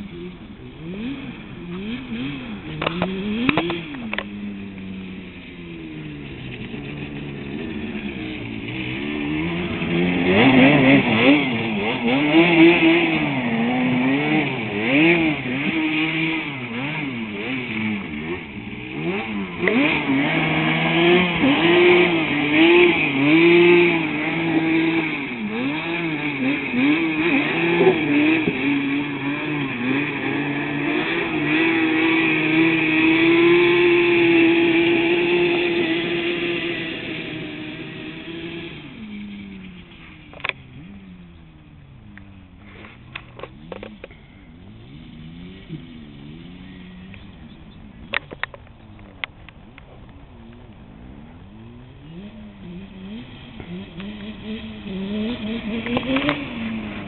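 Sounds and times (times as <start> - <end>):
quad bike engine revving: 0.0 - 57.0.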